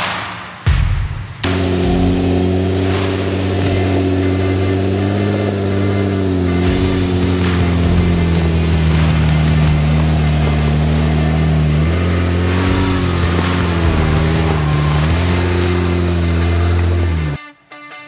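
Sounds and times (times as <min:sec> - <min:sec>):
car engine running under load: 0:01.4 - 0:17.4.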